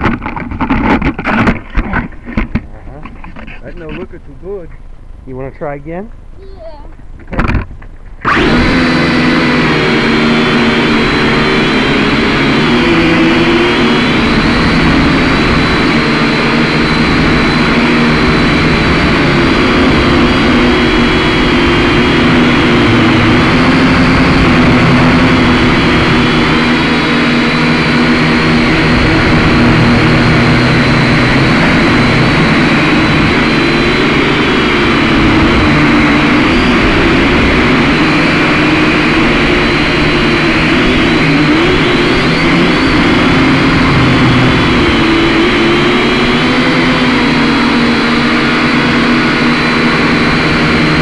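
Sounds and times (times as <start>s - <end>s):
toy drone propellers whining: 8.2s - 51.0s.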